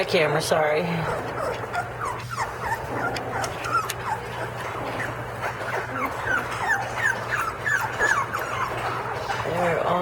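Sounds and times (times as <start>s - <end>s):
puppies whimpering and squeaking: 0.0s - 10.0s.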